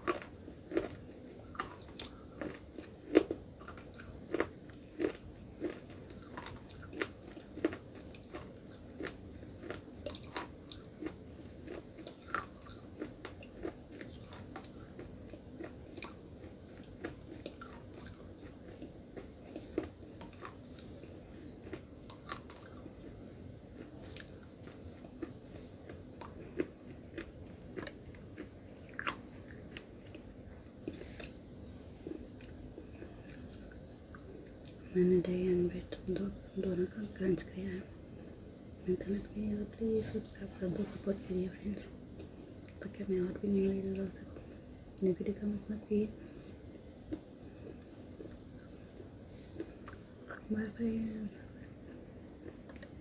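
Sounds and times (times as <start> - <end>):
soft chewing: 0.0 - 53.0.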